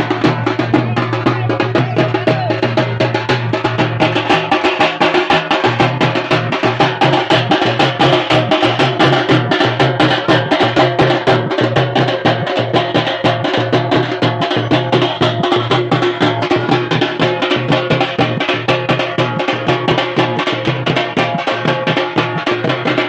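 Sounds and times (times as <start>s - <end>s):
bass drum: 0.0s - 23.0s
drum band playing: 0.0s - 23.0s.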